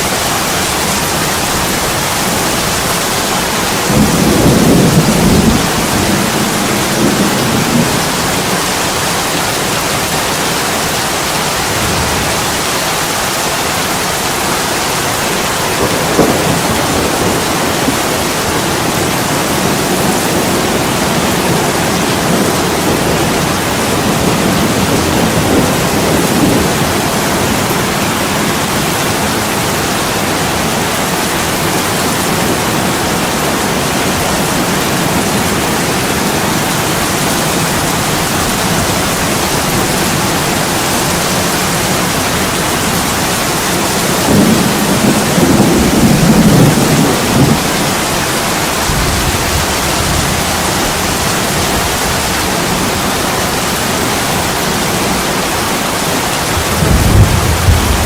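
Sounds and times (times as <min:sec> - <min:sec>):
heavy rain on window: 0:00.0 - 0:58.0.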